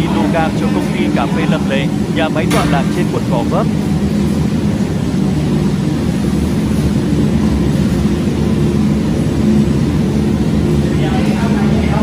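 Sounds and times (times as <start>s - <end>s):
coffee roaster mechanical drone: 0.0s - 12.0s.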